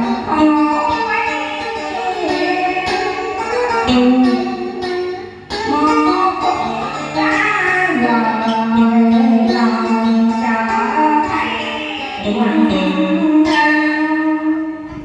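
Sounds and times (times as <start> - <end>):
woman singing slow melody: 0.0 - 14.9
guitar accompaniment: 0.0 - 15.0.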